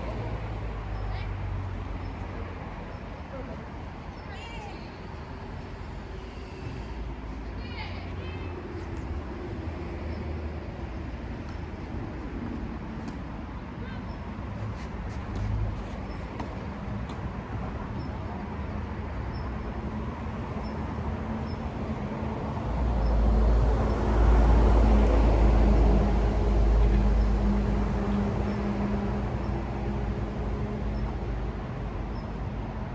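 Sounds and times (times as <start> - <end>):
steady vehicle hum: 0.0 - 32.9.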